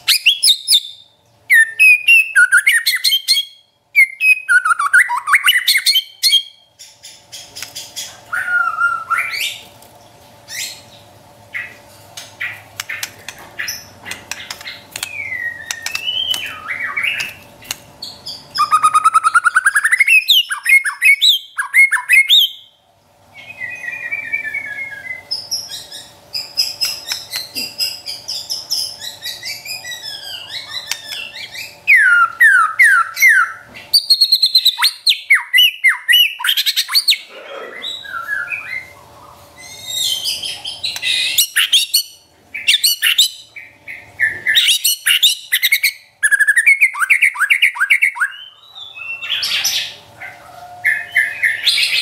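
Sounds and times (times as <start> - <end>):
songbird singing whistles and rattles: 0.0 - 9.6, 12.4 - 22.7, 23.4 - 37.1, 39.6 - 50.0.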